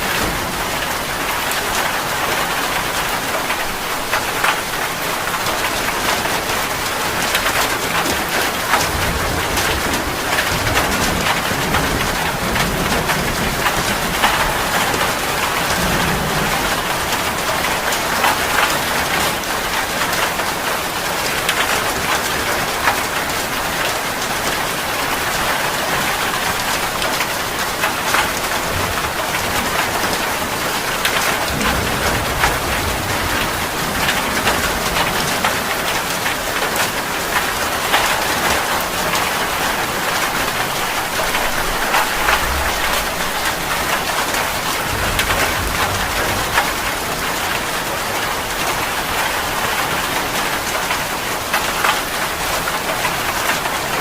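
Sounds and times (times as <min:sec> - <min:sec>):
heavy rain on hard surface: 0:00.0 - 0:54.0.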